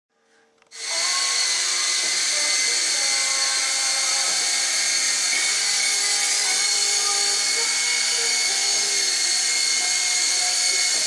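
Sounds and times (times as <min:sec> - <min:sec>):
toy helicopter motor whine: 0:00.7 - 0:11.0.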